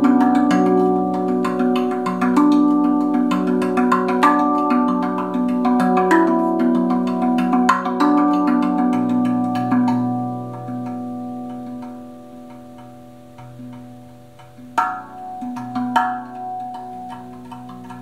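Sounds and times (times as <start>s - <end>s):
steel tongue drum notes ringing: 0.0s - 18.0s.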